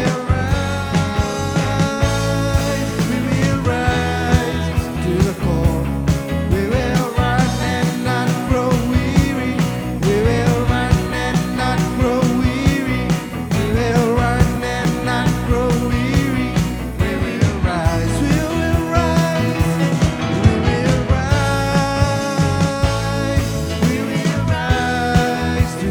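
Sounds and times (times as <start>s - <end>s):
drums steady beat: 0.0s - 25.9s
instrumental worship band music: 0.0s - 25.9s.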